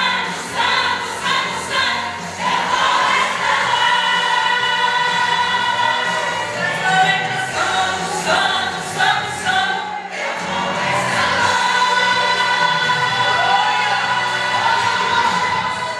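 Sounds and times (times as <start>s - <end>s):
gospel vocal group singing: 0.0s - 15.9s.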